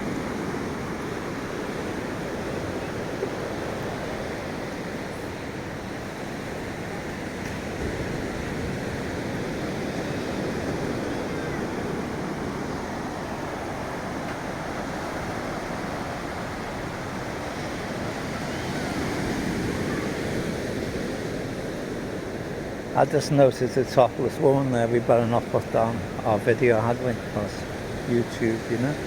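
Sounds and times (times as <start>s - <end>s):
ocean waves breaking on beach: 0.0s - 29.0s
wind: 0.0s - 29.0s.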